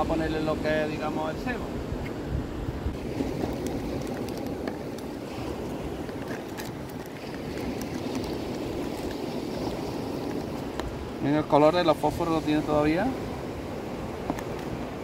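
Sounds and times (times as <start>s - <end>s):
surf rushing: 0.0s - 15.0s
wind: 0.0s - 15.0s.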